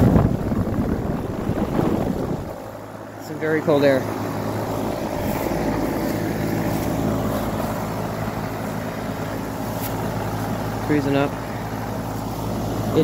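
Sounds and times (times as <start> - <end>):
compressor hum: 0.0 - 13.0
fan whooshing: 0.0 - 13.0.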